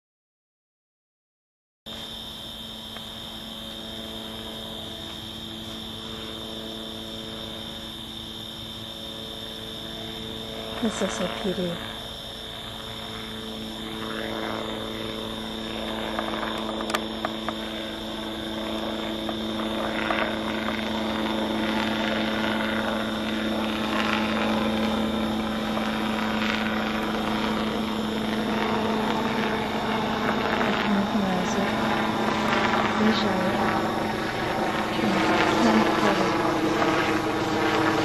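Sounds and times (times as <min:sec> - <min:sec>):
helicopter rotor and engine drone: 0:01.9 - 0:38.0.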